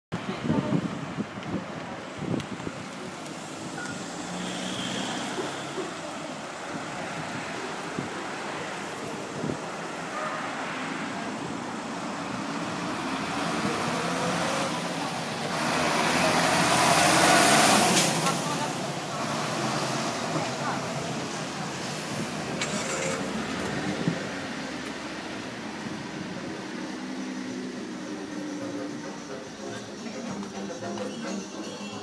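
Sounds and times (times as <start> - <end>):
cars driving past: 2.2 - 32.0.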